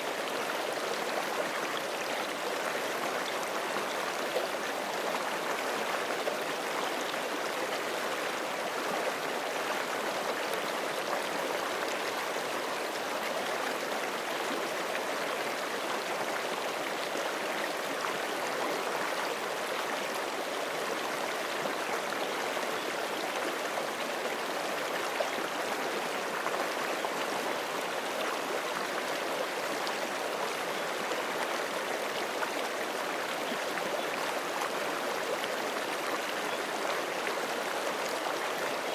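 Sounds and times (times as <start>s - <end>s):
creek flowing over rocks: 0.0s - 38.9s.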